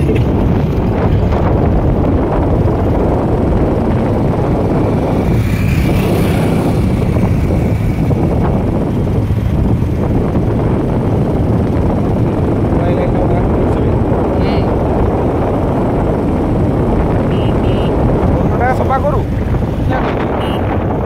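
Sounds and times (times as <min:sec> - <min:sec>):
wind and road noise: 0:00.0 - 0:21.0
wind buffeting microphone: 0:00.0 - 0:21.0.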